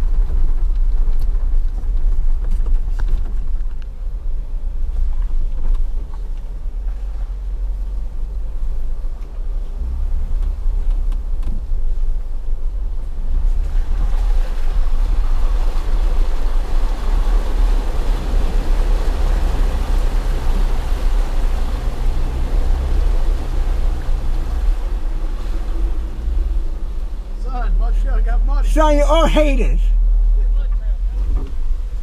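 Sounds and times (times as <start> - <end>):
off-road vehicle engine running: 0.0 - 32.0
water splashing around tyres: 0.0 - 32.0.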